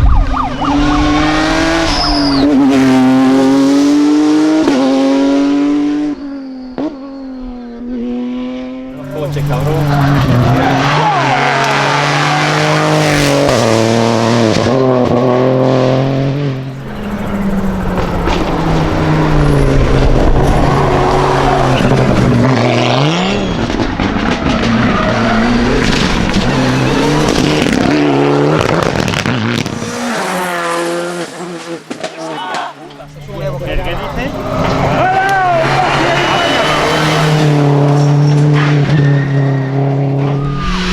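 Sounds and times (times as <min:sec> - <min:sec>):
rally car engines at full throttle: 0:00.0 - 0:40.9.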